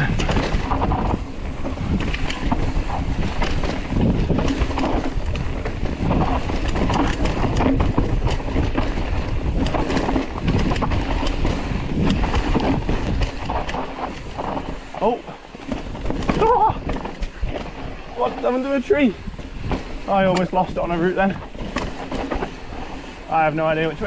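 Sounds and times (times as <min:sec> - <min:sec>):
bike knocks and clicks: 0:00.0 - 0:23.1
bike tyres rolling over rocks: 0:00.0 - 0:24.0
wind buffeting microphone: 0:00.0 - 0:24.0.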